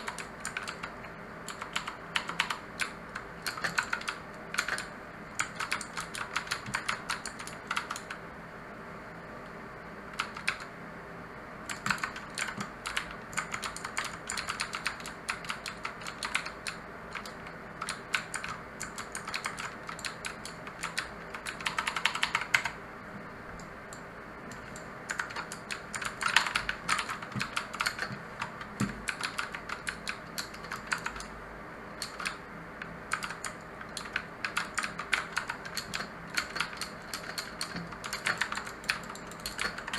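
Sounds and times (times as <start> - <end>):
mechanical keyboard typing: 0.0 - 8.2, 10.1 - 10.7, 11.7 - 22.8, 23.6 - 31.4, 32.0 - 39.9.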